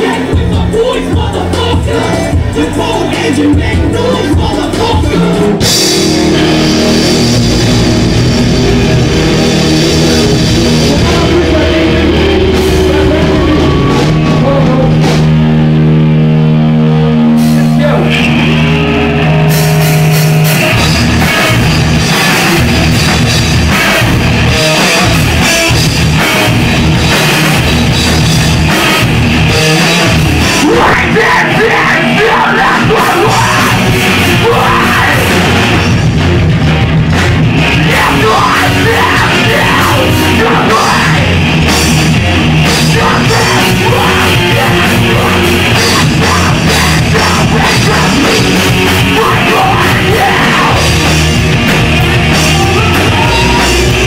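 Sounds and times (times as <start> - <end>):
heavy rock band playing: 0.0 - 54.0
yelled vocals: 0.0 - 54.0.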